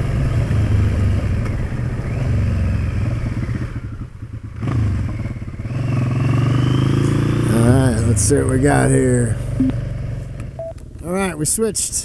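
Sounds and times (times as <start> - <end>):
motorcycle engine accelerating: 0.0 - 10.7.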